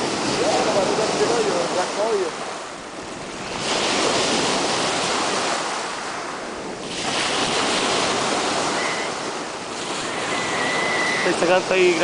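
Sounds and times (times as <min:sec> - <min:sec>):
small waves washing onto beach: 0:00.0 - 0:12.0
wind on microphone: 0:00.0 - 0:12.0.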